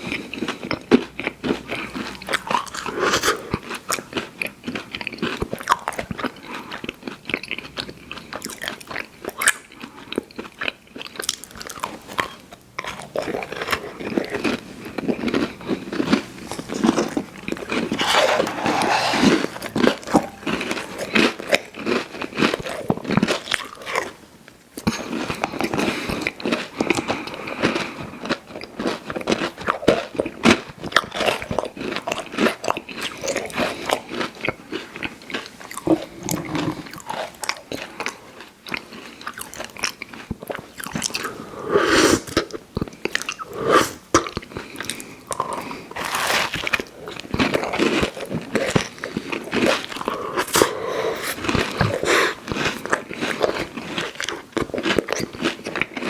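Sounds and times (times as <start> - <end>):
sweets crunching when chewed: 0.0 - 56.0.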